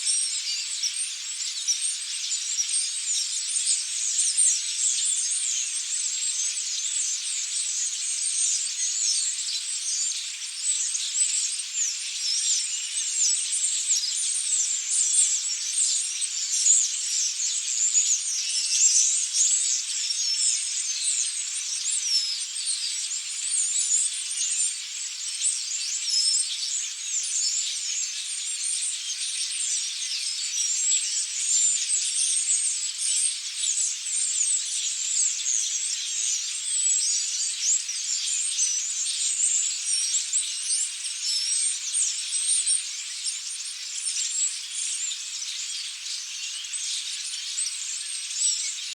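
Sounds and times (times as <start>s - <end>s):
flock of starlings chattering: 0.0s - 48.9s.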